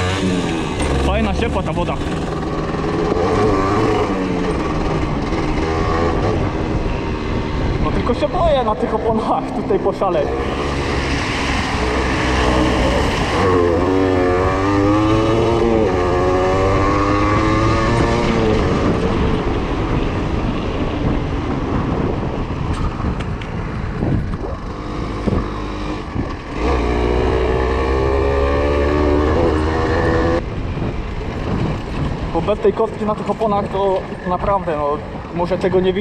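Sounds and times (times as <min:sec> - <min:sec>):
motorcycle engine revving: 0:00.0 - 0:23.2, 0:24.0 - 0:30.5.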